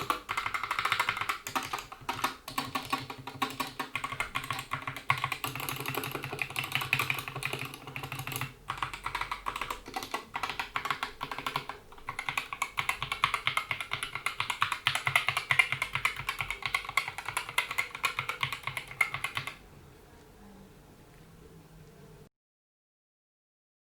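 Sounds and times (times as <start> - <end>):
mechanical keyboard typing: 0.0 - 19.6.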